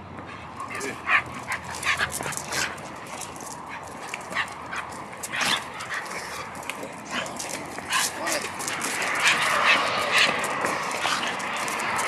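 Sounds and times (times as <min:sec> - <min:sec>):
dogs yipping and whimpering: 0:00.4 - 0:12.0.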